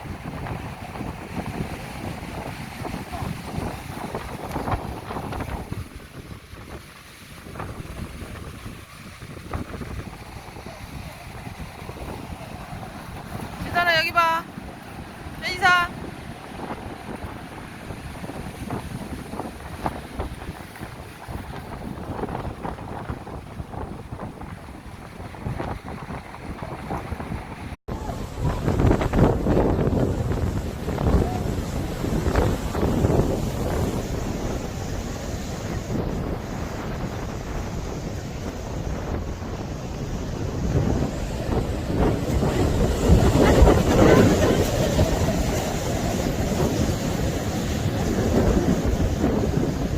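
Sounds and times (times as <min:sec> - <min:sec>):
rough sea waves: 0:00.0 - 0:49.9
wind buffeting microphone: 0:00.0 - 0:49.9.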